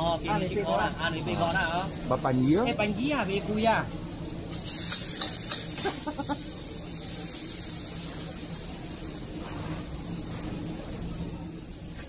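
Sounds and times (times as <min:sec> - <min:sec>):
bean sprouts sizzling in a wok: 0:00.0 - 0:12.0
gas burner roaring: 0:00.0 - 0:12.0.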